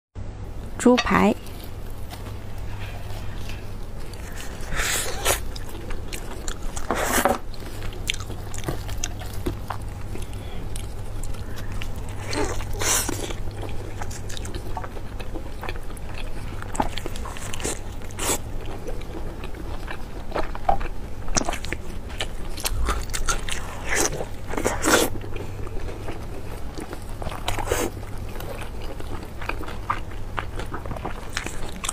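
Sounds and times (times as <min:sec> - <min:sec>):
steady low hum: 0:00.2 - 0:31.9
biting and chewing food: 0:01.4 - 0:31.9.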